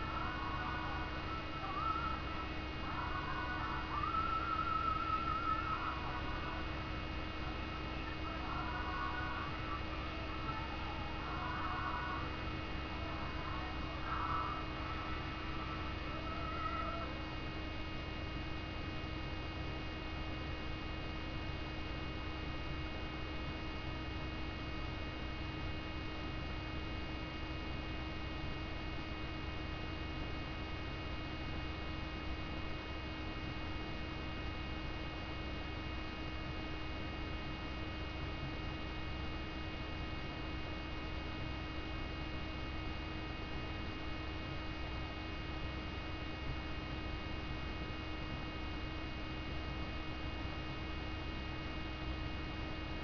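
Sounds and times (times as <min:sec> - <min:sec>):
constant electrical tones: 0:00.0 - 0:53.0
electrical hum and hiss: 0:00.0 - 0:53.0.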